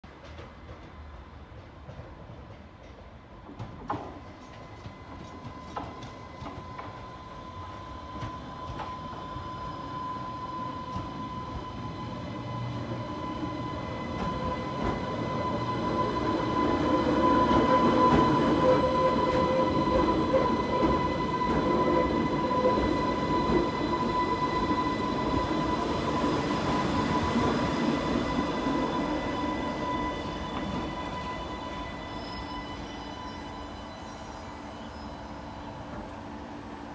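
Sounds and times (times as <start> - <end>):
electric train running past: 0.1 - 36.9.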